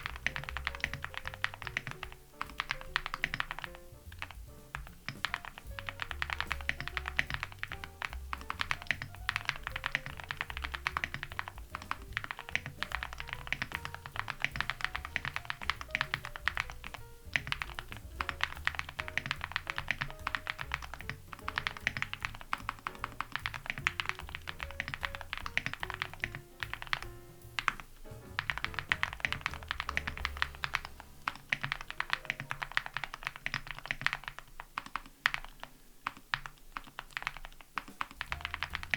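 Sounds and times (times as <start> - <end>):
mechanical keyboard typing: 0.0 - 27.8, 28.4 - 38.9
music with walking bass line: 0.0 - 31.3, 38.3 - 38.9.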